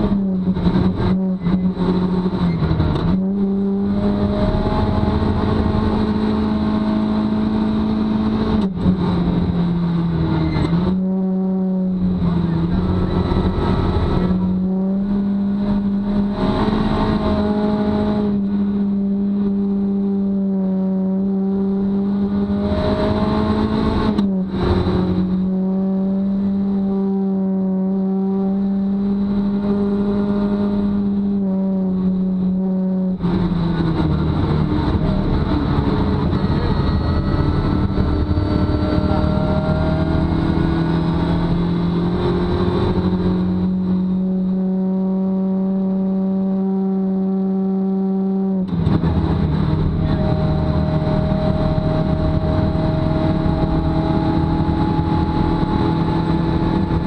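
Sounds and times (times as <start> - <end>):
rally car engine at high revs: 0.0 - 57.0.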